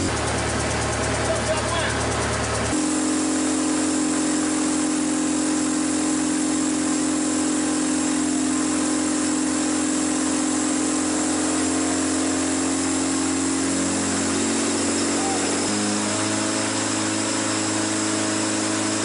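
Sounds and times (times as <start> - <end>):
fire engine pump motor humming: 0.0 - 19.0.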